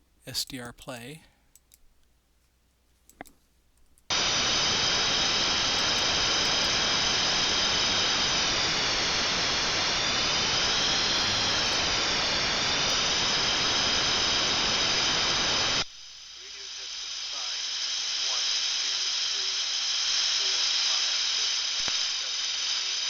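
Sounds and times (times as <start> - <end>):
radio static hiss: 4.1 - 23.0.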